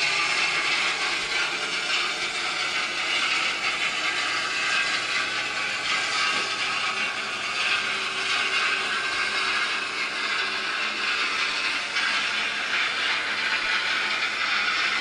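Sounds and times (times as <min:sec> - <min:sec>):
combine harvester clatter and whir: 0:00.0 - 0:15.0.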